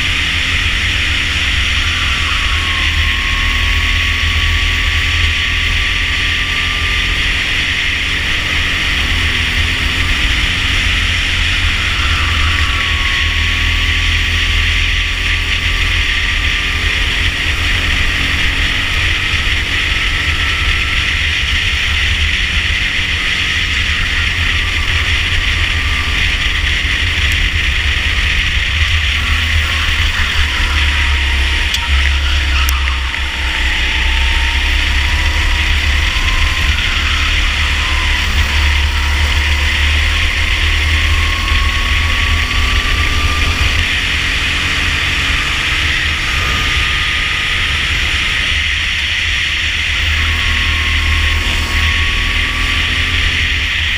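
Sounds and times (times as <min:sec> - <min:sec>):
go-kart engine running flat out: 0:00.0 - 0:53.9.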